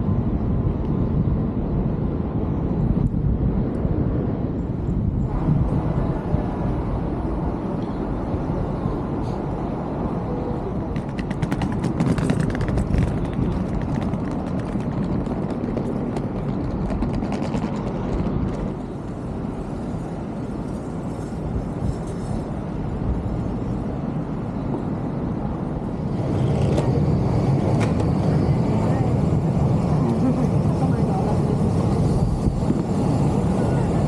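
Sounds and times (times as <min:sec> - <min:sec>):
low rumble of traffic: 0:00.0 - 0:34.0.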